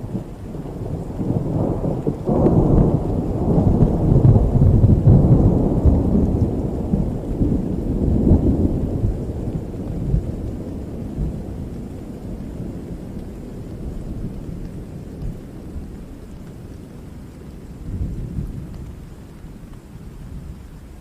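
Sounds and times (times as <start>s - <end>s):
rolling thunder rumble: 0.0s - 21.0s
steady rain: 0.0s - 21.0s.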